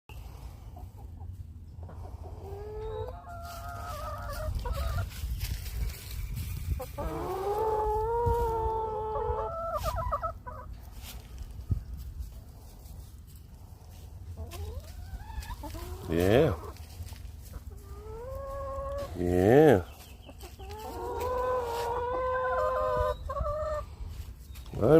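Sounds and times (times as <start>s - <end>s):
chickens clucking: 0.1s - 24.9s.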